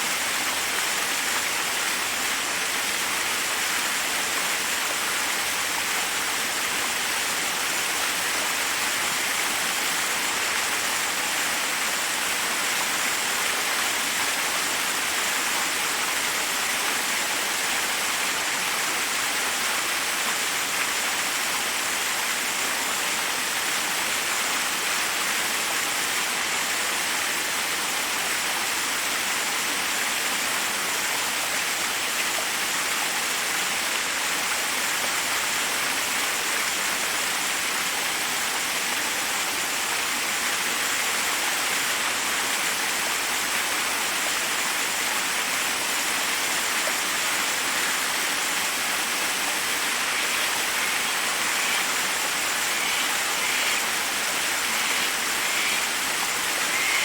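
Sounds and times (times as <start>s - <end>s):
water cascading over rocks: 0.0s - 57.0s.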